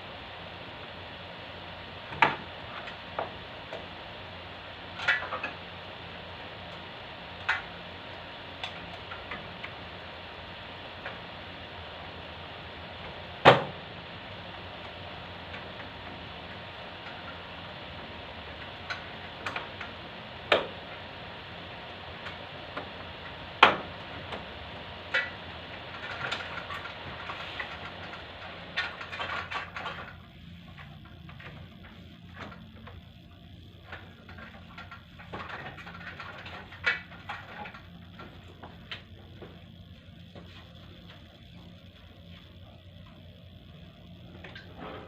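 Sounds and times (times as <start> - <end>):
machine hum and hiss: 0.0 - 45.0.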